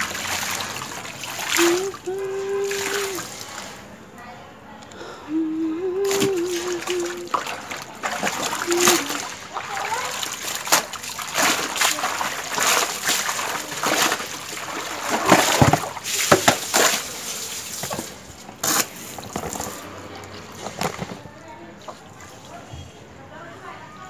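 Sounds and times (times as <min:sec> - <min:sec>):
hose filling tub: 0:00.0 - 0:03.9, 0:05.3 - 0:21.2
towel splashing in soapy water: 0:00.0 - 0:03.9, 0:05.8 - 0:21.2.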